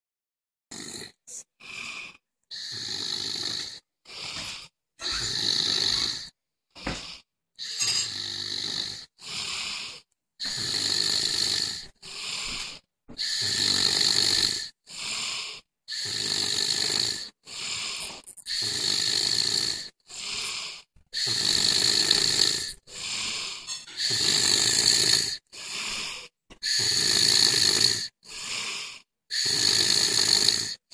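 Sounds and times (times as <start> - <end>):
man snoring: 0.7 - 30.9.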